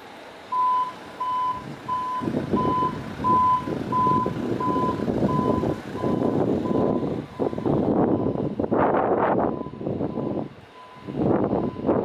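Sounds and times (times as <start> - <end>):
reversing alarm beeping: 0.5 - 8.8, 9.4 - 12.0.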